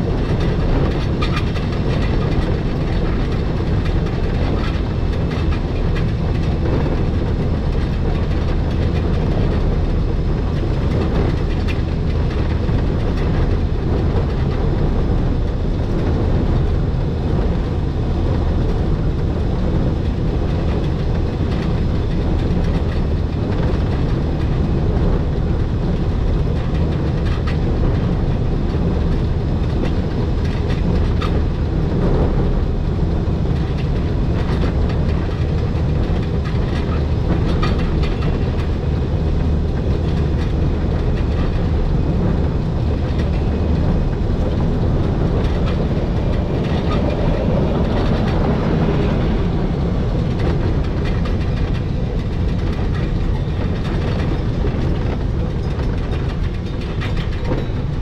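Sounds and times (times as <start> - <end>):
rack train running rumble: 0.0 - 58.0
clicks from wheels and track: 0.1 - 58.0.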